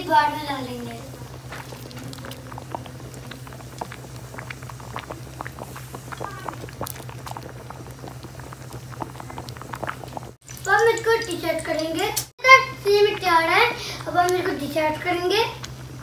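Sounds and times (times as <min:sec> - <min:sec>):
pot of milk boiling: 0:00.0 - 0:16.0
steady low hum: 0:00.0 - 0:16.0.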